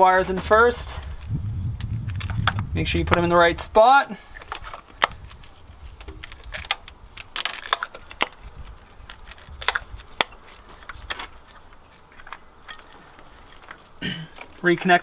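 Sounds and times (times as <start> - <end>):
rustle of wires: 0.0 - 15.0.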